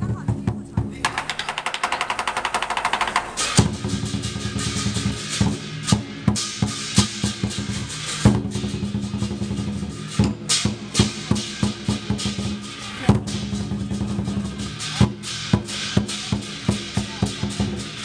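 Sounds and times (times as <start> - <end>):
large drum playing: 0.0 - 18.0.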